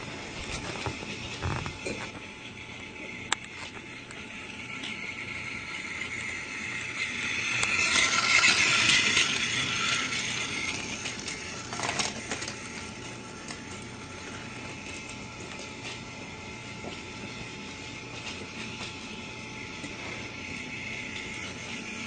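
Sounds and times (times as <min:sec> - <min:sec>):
toy motor and gears whirring: 0:00.0 - 0:22.0.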